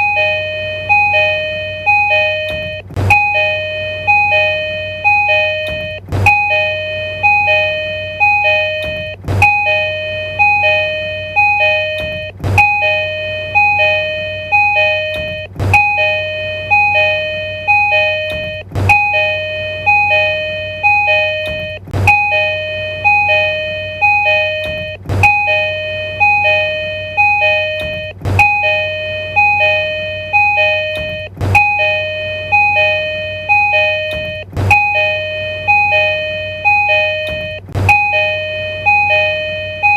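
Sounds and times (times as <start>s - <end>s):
two-note electronic door chime: 0.0s - 39.9s.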